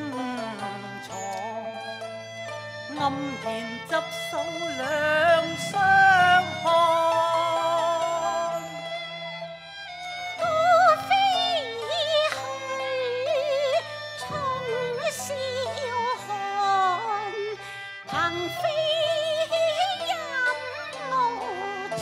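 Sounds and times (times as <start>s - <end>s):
opera singing with vibrato: 0.0s - 2.0s, 2.9s - 8.9s, 10.4s - 22.0s
sustained musical accompaniment: 0.0s - 22.0s.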